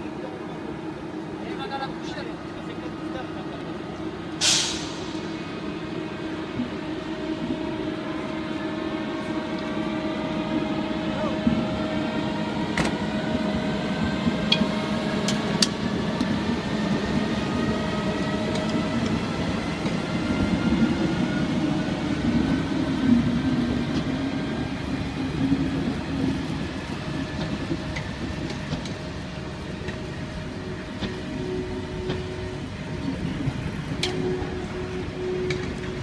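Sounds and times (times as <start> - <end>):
electric locomotive pulling away: 0.0 - 36.0.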